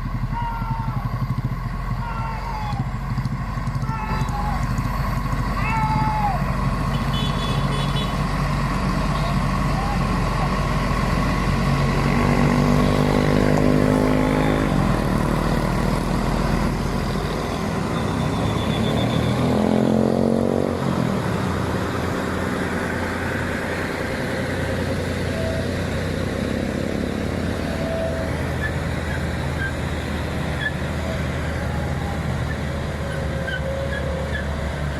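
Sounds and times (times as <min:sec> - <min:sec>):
traffic engines rumbling: 0:00.0 - 0:34.9
vehicle engine passing: 0:02.7 - 0:34.9.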